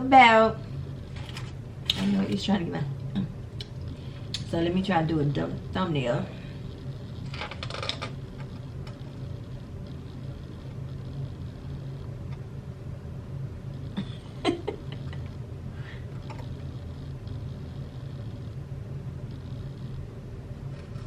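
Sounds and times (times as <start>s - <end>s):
faint steady tones: 0.0s - 21.0s
steady low hum: 0.0s - 21.0s.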